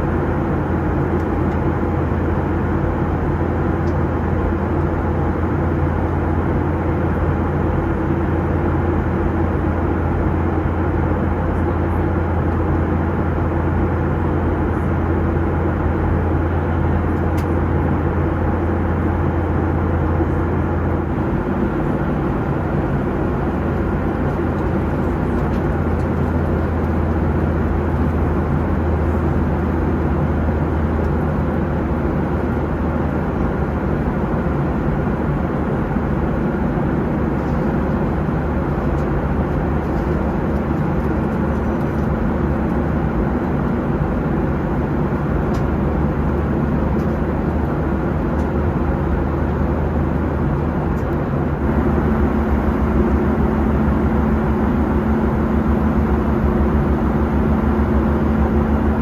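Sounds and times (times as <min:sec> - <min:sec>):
aircraft cabin engine rush: 0:00.0 - 0:59.0.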